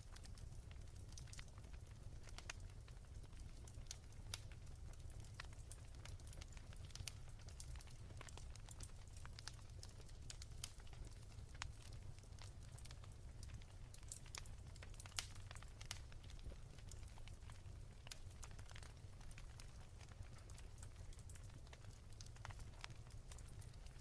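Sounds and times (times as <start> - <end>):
low rumble of fire: 0.0 - 24.0
wood fire crackling: 0.0 - 24.0.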